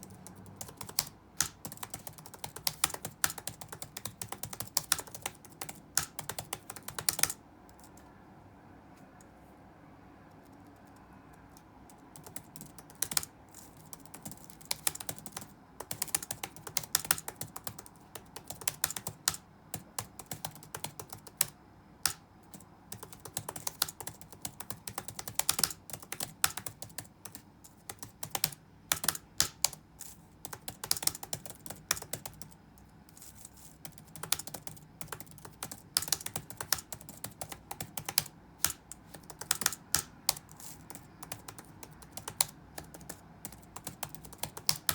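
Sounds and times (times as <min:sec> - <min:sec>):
keyboard keystroke clicks: 0:00.0 - 0:08.0, 0:10.3 - 0:29.8, 0:33.9 - 0:44.9
faint background noise: 0:00.0 - 0:44.9.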